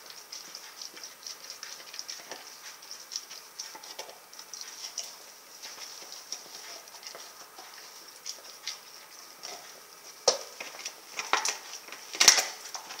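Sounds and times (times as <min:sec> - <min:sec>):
dog crunching frozen bone: 0:00.0 - 0:13.0
dog licking and scraping teeth: 0:00.0 - 0:13.0.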